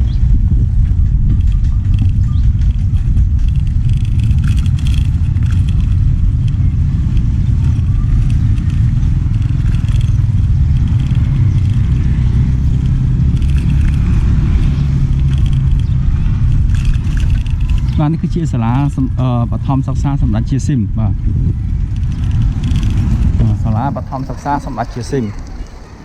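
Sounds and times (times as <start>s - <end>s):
vehicle rumbling on the move: 0.0s - 26.0s.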